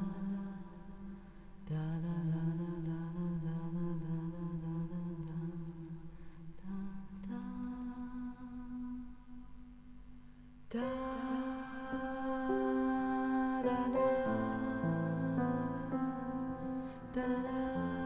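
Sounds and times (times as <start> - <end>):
slow meditative music: 0.0 - 18.0.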